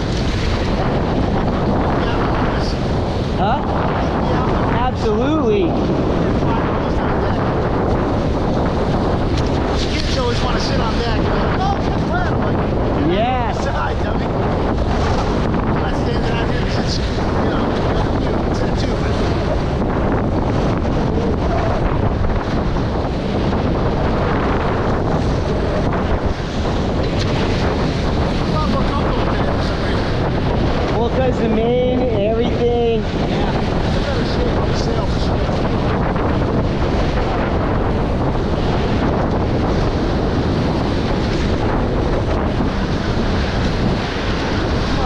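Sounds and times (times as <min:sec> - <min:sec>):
water rushing and waves: 0:00.0 - 0:45.0
wind buffeting microphone: 0:00.0 - 0:45.0.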